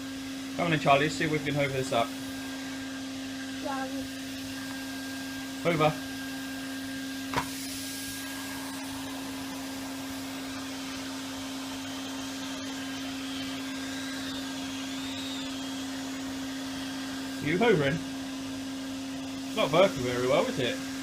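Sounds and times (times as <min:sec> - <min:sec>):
vacuum cleaner humming: 0:00.0 - 0:21.0.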